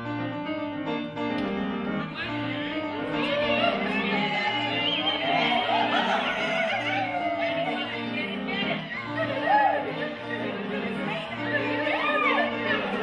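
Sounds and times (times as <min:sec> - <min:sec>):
classical instrumental chords: 0:00.0 - 0:13.0
operatic singing: 0:02.0 - 0:13.0.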